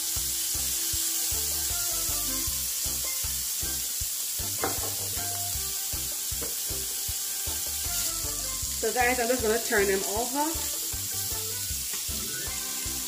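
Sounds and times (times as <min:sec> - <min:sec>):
shrimp sizzling in oil: 0:00.0 - 0:13.0.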